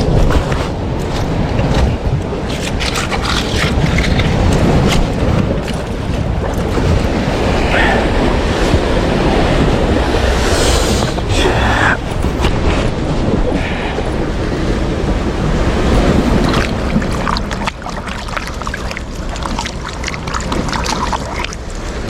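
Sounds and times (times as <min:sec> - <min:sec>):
waves washing against rocks: 0:00.0 - 0:22.0
wind buffeting microphone: 0:00.0 - 0:22.0.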